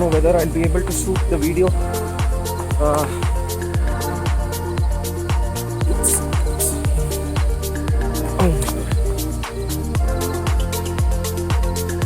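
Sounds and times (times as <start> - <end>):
electronic dance music: 0.0 - 10.7.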